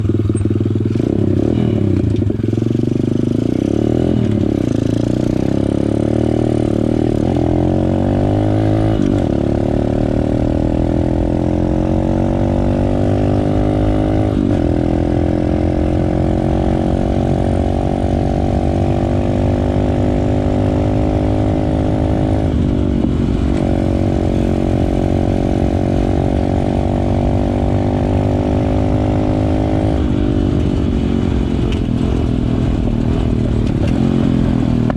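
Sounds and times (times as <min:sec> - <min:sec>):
dirt bike engine at full throttle: 0:00.0 - 0:34.9.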